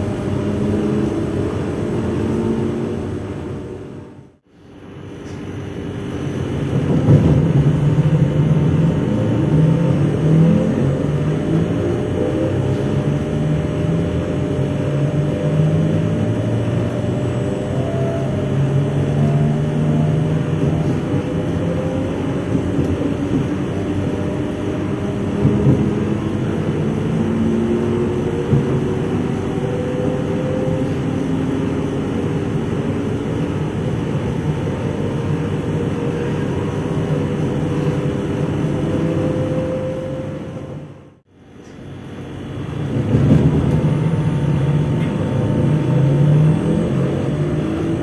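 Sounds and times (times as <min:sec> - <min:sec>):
train auxiliary equipment humming: 0:00.0 - 0:48.0.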